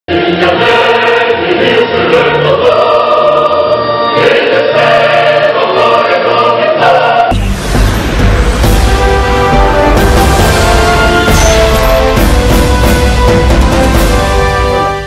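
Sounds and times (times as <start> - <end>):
choir singing sustained chords: 0.1 - 15.0.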